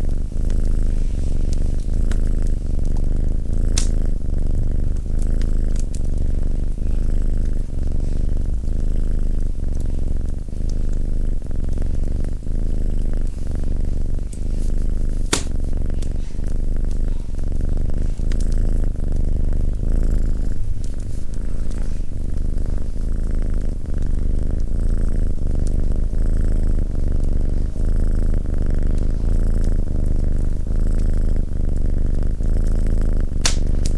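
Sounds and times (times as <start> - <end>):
cat purring: 0.0 - 33.9
fire crackling: 0.0 - 33.9.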